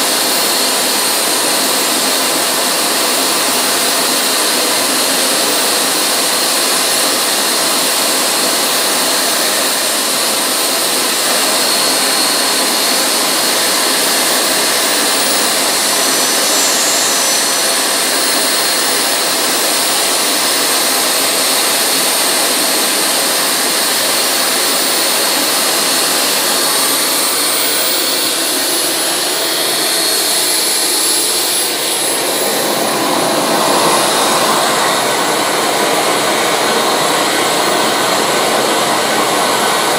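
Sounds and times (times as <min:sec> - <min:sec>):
model jet turbine whine: 0:00.0 - 0:39.9.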